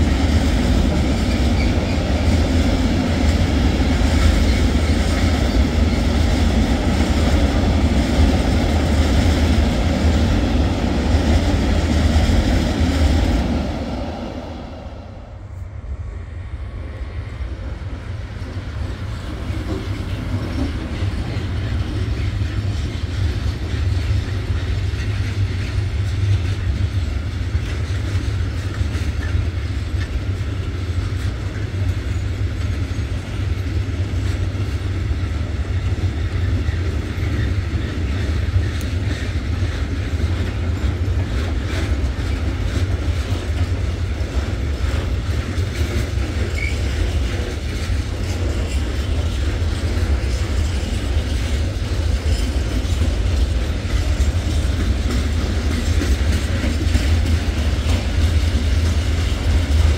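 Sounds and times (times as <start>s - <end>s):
deep train rumble: 0.0s - 59.9s.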